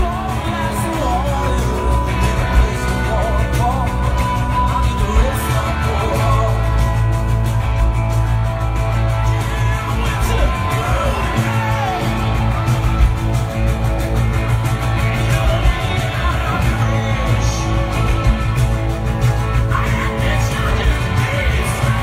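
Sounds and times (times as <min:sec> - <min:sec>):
live rock band: 0:00.0 - 0:22.0.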